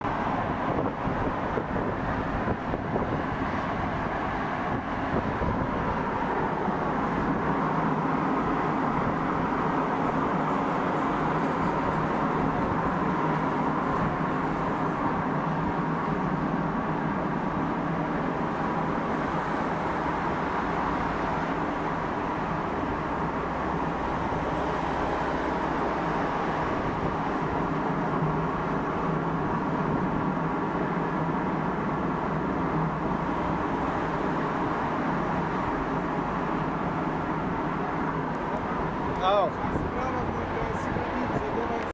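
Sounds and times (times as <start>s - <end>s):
road traffic rushing: 0.0s - 41.9s.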